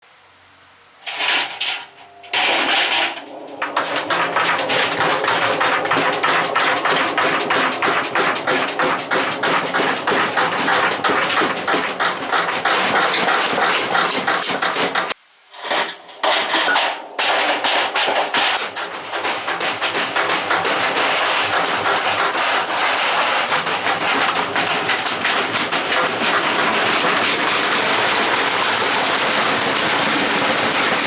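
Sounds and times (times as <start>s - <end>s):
metal banging in washing machine drum: 1.0s - 31.0s.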